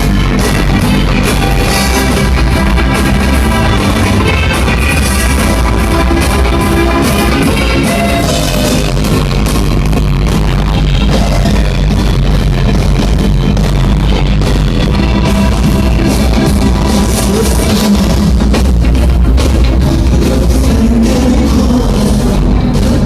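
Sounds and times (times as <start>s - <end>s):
loud music over sound system: 0.0s - 23.0s.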